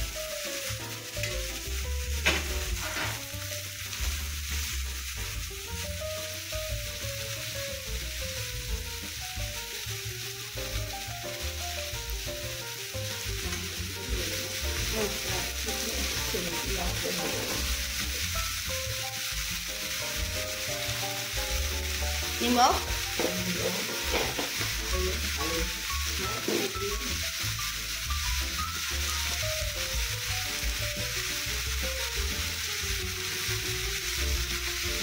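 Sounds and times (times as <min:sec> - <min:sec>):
greens sizzling in hot oil: 0:00.0 - 0:35.0.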